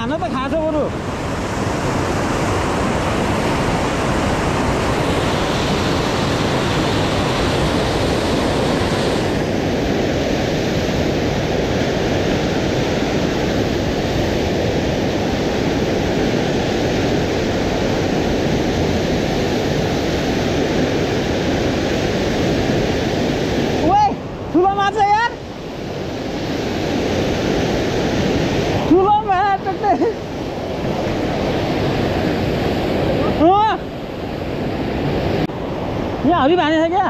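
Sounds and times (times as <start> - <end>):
river rushing through rapids: 0.0 - 37.0.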